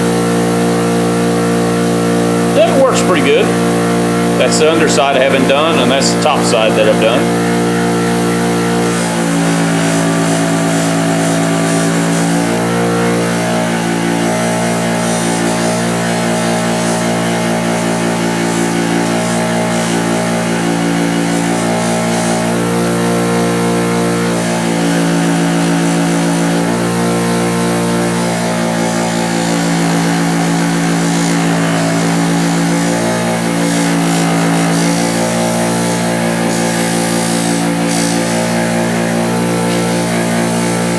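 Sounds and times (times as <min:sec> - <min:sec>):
electric buffer motor humming: 0:00.0 - 0:40.9.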